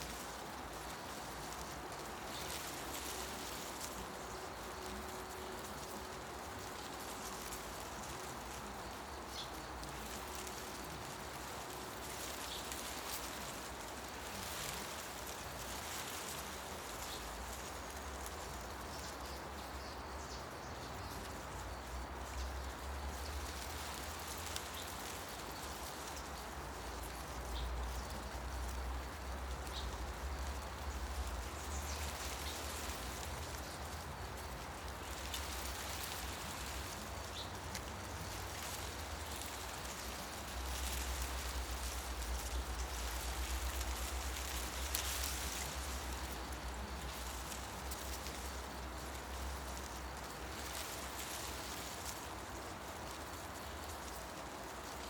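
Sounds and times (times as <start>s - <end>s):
wind rustling tree leaves: 0.0s - 55.0s.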